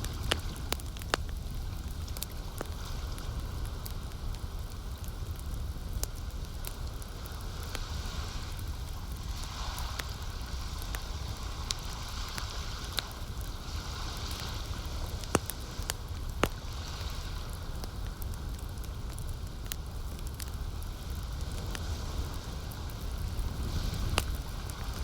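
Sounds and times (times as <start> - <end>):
campfire crackling: 0.0 - 25.0
soft hiss: 0.0 - 25.0.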